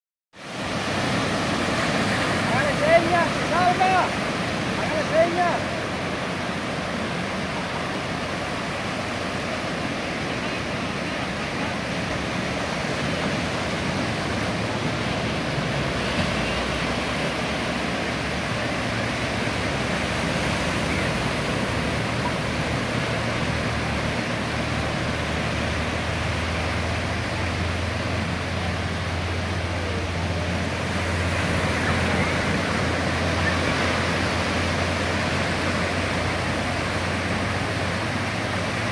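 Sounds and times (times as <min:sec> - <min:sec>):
ocean waves breaking on beach: 0:00.4 - 0:38.9.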